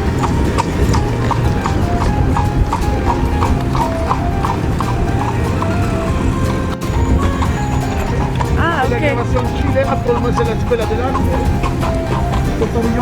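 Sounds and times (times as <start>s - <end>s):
horse hooves clip-clopping on pavement: 0.0s - 13.0s
music: 0.0s - 13.0s.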